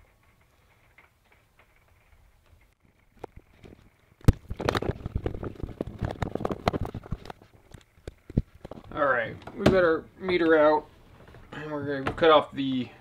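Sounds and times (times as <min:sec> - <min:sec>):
wires rustling and scraping: 0:00.0 - 0:13.0.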